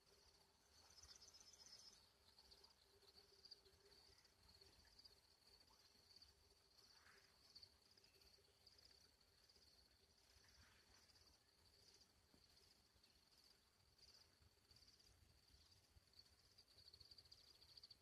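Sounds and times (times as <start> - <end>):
crickets chirping: 0.0 - 18.0
soft outdoor hush: 0.0 - 18.0.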